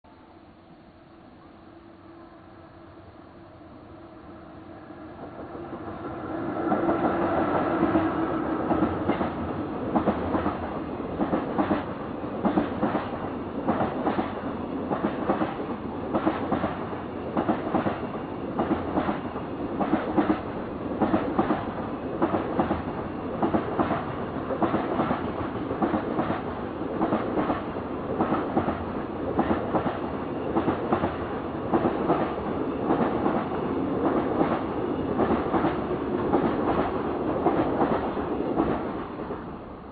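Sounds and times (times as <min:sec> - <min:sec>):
freight train passing: 0:00.1 - 0:39.9.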